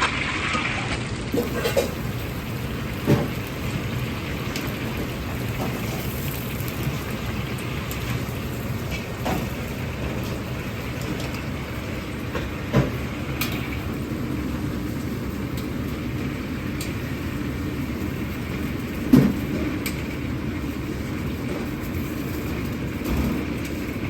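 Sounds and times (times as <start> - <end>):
deep-frying sizzle: 0.0 - 24.0
gas burners and extractor roaring: 0.0 - 24.0.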